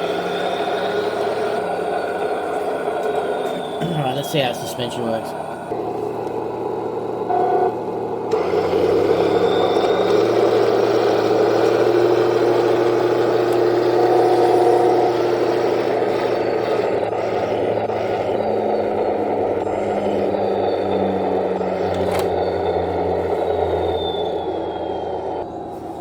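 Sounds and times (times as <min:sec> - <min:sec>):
drive motors whirring: 0:00.0 - 0:26.0
toy tank engine rumble: 0:00.0 - 0:26.0.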